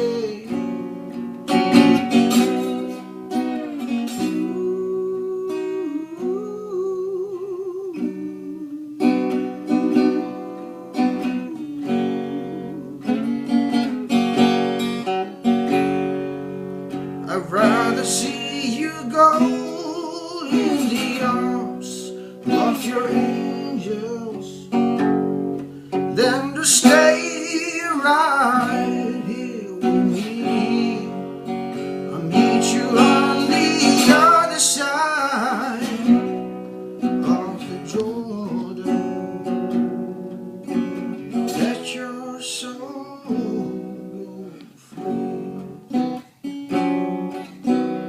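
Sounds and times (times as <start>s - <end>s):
person singing: 0.0s - 1.0s, 1.6s - 15.3s, 17.2s - 25.2s, 26.0s - 46.0s
strummed acoustic guitar: 0.0s - 48.0s.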